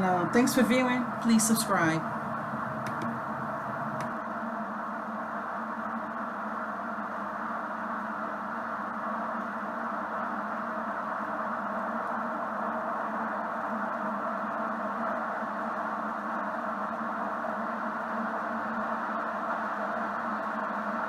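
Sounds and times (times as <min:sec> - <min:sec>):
faint low machine hum: 0:00.0 - 0:21.0
steady noise: 0:00.0 - 0:21.0.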